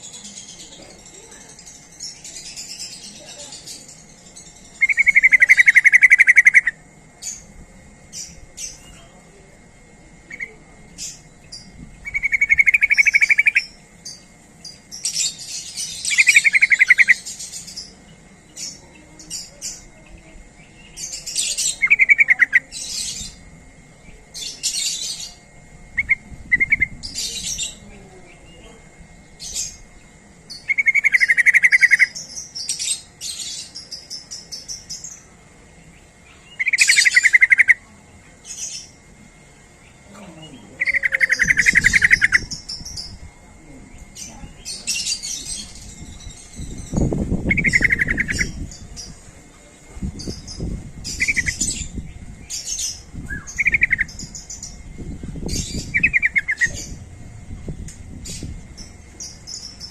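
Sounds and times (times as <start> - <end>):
bulbul chattering calls: 0.0 - 7.5, 10.2 - 39.0, 39.6 - 49.3, 50.1 - 59.9.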